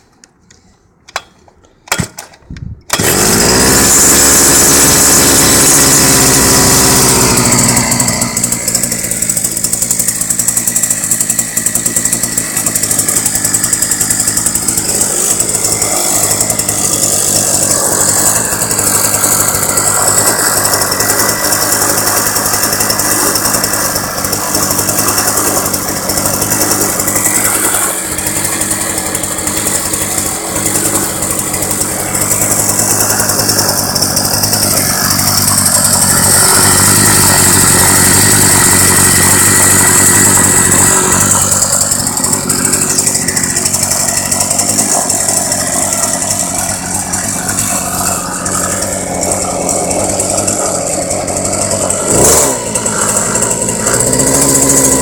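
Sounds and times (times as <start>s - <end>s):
scooter engine running with rattle: 2.9s - 55.0s.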